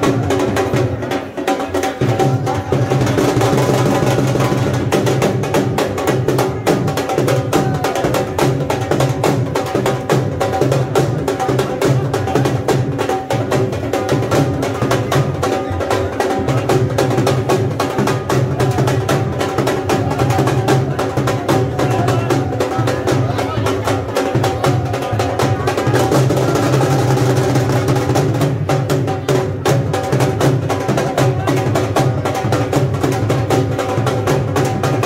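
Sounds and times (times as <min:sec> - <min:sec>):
dhol drumming: 0:00.0 - 0:35.0.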